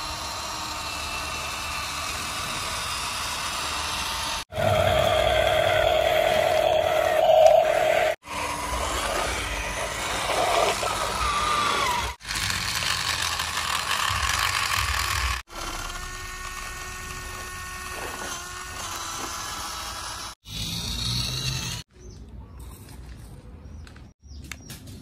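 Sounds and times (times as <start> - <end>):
toy electric motors whirring: 0.0 - 21.9.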